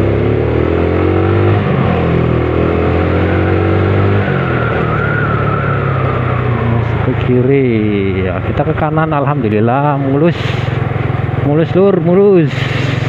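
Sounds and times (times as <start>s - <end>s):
motorcycle engine accelerating: 0.0s - 13.0s
road noise: 0.0s - 13.0s.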